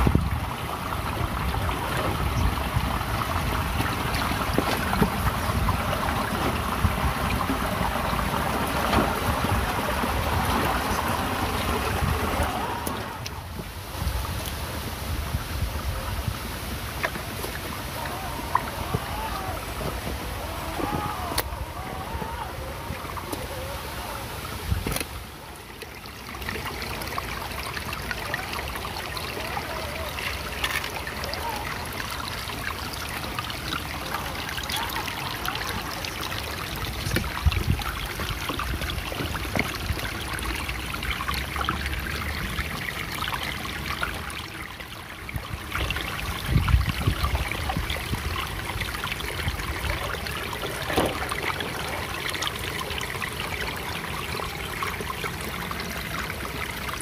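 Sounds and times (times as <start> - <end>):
creek water running over rocks: 0.0 - 57.0.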